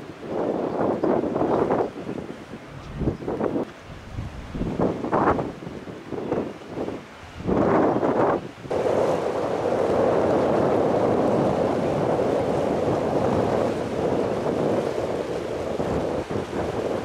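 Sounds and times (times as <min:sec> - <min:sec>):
sea waves washing: 0:00.0 - 0:17.0
wind buffeting microphone: 0:00.0 - 0:17.0.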